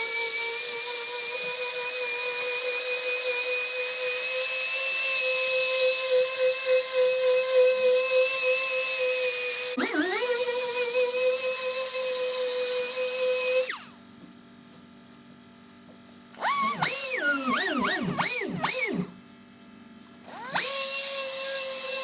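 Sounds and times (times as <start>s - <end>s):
small power tool whining: 0.0s - 14.0s, 16.4s - 19.2s, 20.2s - 22.0s.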